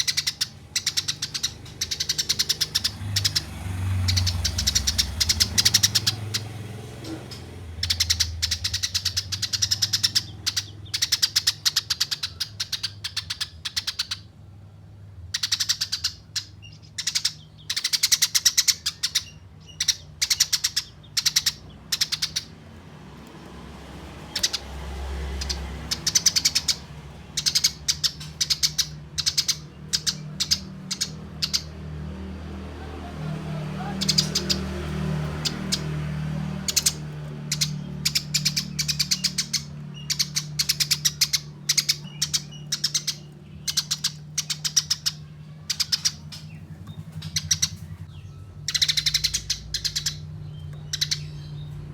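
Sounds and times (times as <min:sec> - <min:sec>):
sparrows chattering: 0:00.0 - 0:51.9.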